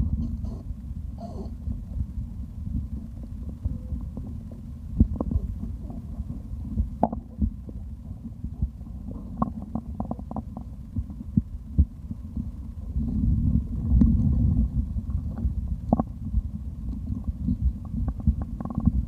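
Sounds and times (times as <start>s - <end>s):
stomach gurgling: 0.0s - 19.0s.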